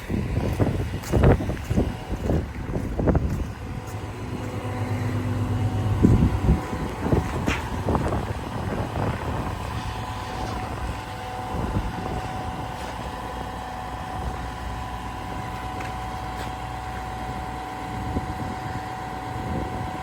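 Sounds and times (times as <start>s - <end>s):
excavator diesel engine running: 0.0s - 20.0s
steady whine: 0.0s - 20.0s.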